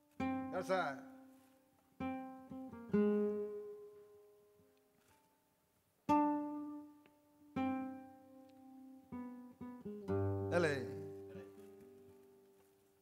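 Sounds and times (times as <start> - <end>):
flamenco guitar chords: 0.0 - 5.1, 6.0 - 12.8.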